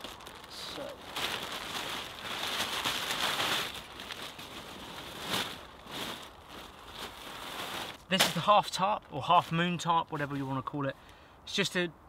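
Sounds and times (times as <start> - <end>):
dry leaves crunching: 0.0 - 10.4
plastic tarp rustling and crinkling: 0.0 - 10.7.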